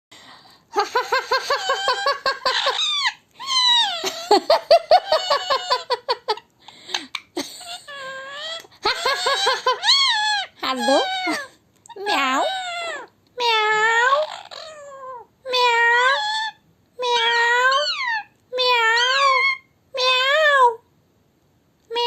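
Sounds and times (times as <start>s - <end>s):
parrot mimicking laughter: 0.7s - 20.2s.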